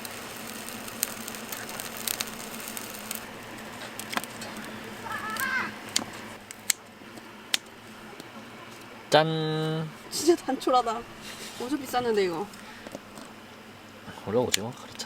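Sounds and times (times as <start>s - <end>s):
wood fire crackling and popping: 0.0s - 9.0s, 9.6s - 15.0s.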